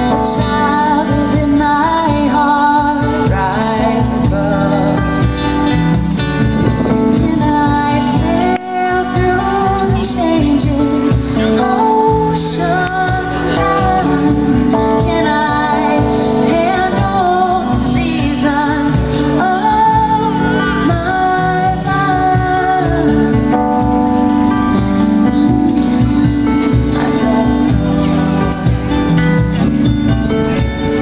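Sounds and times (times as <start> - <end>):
woman singing: 0.0 - 5.8, 6.8 - 29.7
keyboard: 0.0 - 31.0
strummed acoustic guitar: 0.0 - 31.0.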